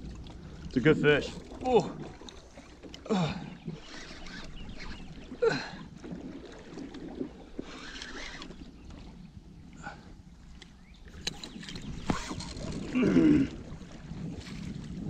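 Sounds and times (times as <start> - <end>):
wind and water hiss: 0.0 - 15.0.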